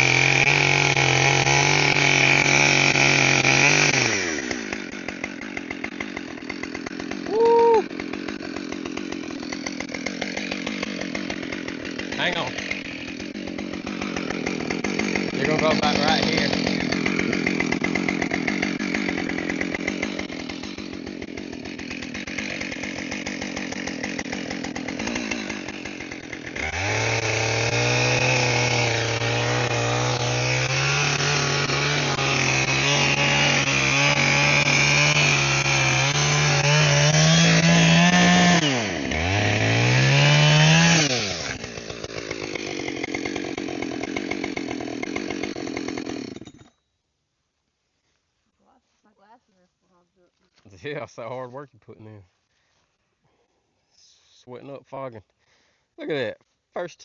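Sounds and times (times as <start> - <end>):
chainsaw cutting log: 0.0 - 46.8.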